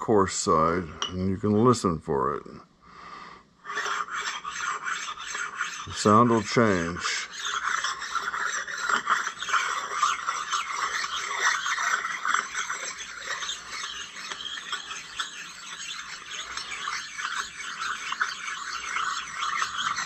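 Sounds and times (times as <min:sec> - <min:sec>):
stone scraping on metal table: 0:03.7 - 0:20.0.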